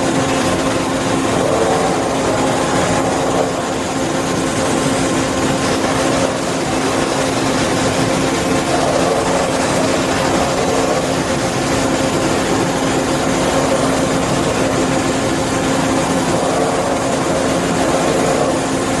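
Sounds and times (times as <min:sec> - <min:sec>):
held machine tones: 0:00.0 - 0:19.0
machining center running: 0:00.0 - 0:19.0.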